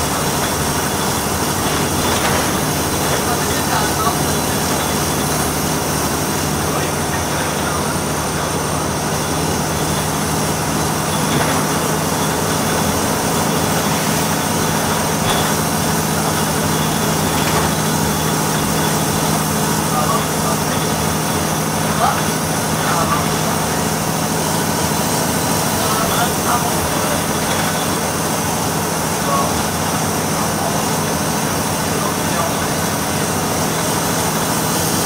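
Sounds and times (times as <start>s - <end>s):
bus diesel engine drone: 0.0s - 35.0s
road noise: 0.0s - 35.0s.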